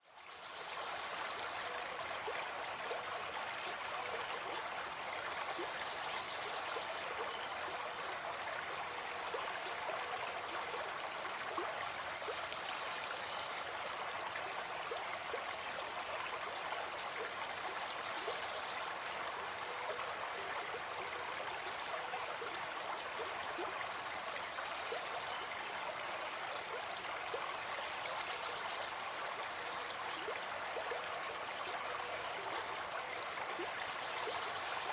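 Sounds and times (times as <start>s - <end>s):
small stream babbling: 0.0s - 34.9s.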